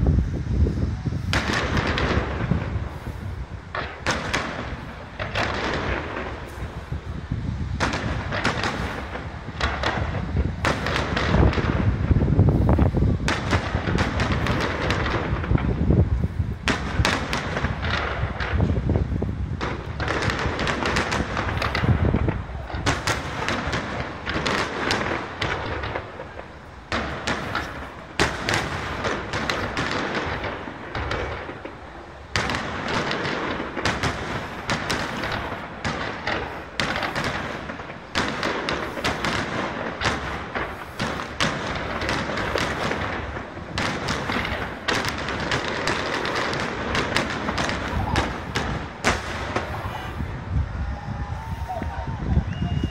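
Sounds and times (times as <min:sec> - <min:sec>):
fireworks bursting: 0:00.0 - 0:52.9.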